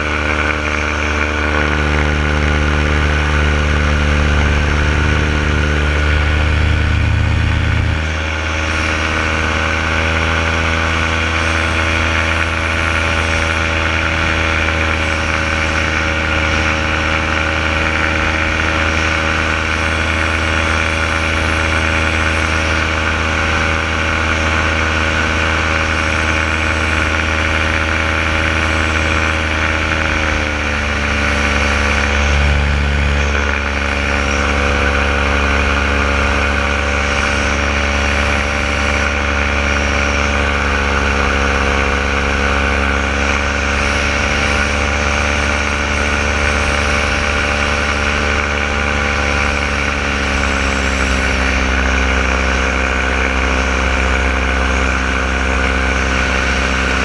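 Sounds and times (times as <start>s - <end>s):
paramotor engine and propeller: 0.0s - 57.0s.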